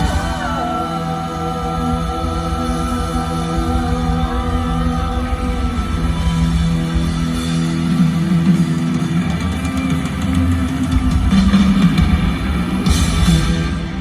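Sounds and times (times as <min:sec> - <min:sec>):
bass guitar: 0:00.0 - 0:14.0
drums: 0:00.0 - 0:14.0
electric guitar: 0:00.0 - 0:14.0.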